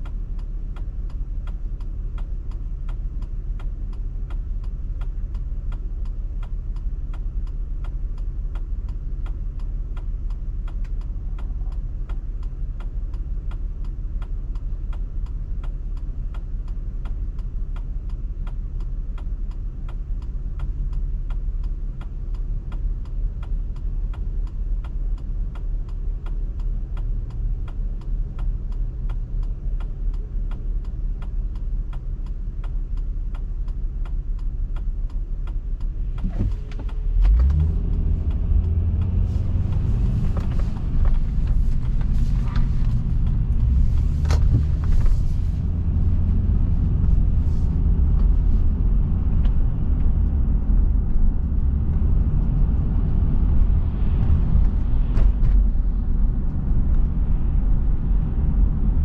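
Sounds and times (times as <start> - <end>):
faint regular ticking: 0.0 - 55.1
car road and engine rumble: 0.0 - 59.0.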